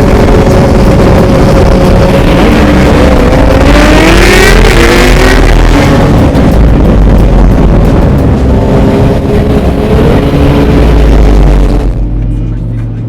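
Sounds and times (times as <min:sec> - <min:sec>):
motorcycle engine revving: 0:00.0 - 0:12.2
motorcycle engines running: 0:00.0 - 0:13.0.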